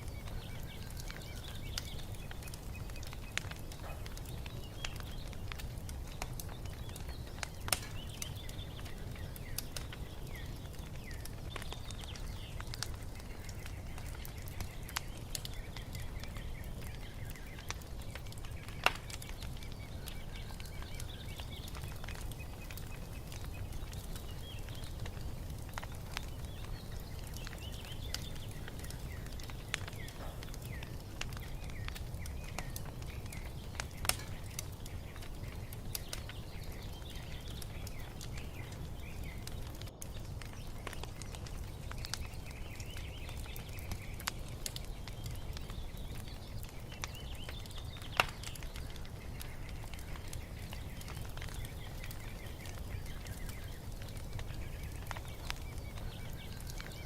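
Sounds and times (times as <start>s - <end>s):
birds chirping softly: 0.0s - 57.0s
wood fire crackling: 0.0s - 57.0s.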